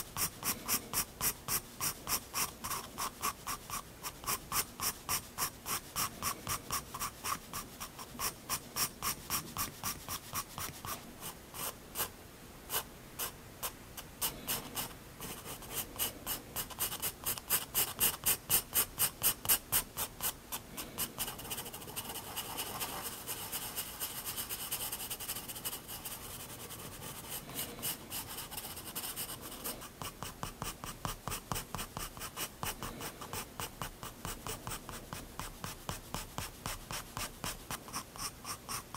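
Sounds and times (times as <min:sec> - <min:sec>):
pencil scratching on paper: 0:00.0 - 0:12.1, 0:14.2 - 0:38.9.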